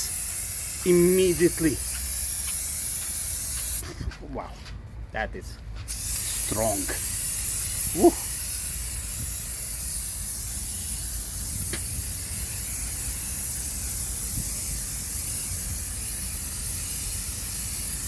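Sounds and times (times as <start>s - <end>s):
aerosol can spraying hiss: 0.0s - 3.8s, 5.9s - 18.0s.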